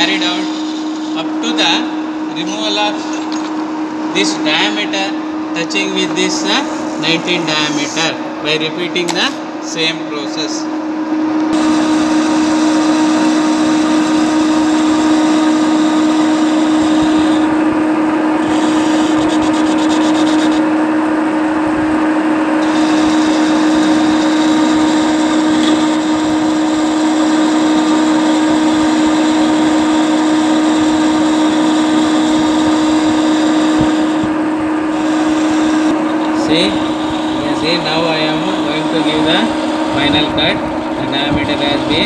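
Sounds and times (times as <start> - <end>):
lathe machine hum: 0.0 - 42.0.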